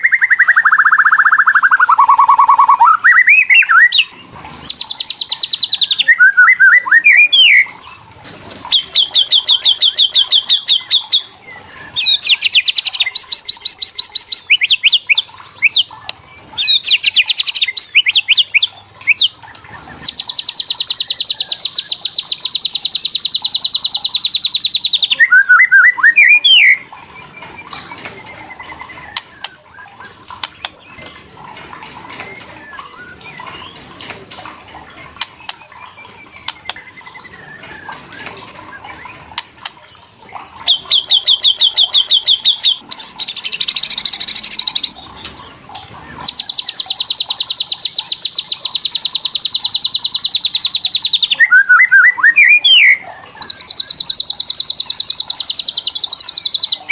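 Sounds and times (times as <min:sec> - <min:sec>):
bird rattling call and whistles: 0:00.0 - 0:56.9.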